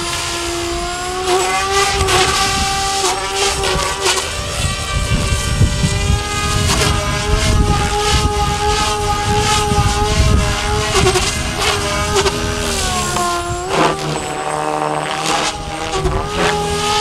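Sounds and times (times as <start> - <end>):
model helicopter motor whine: 0.0 - 17.0
rotor blades swishing: 0.0 - 17.0.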